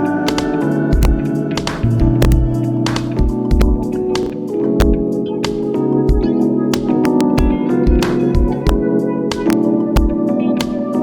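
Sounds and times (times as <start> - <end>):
relaxing instrumental music: 0.0 - 11.0.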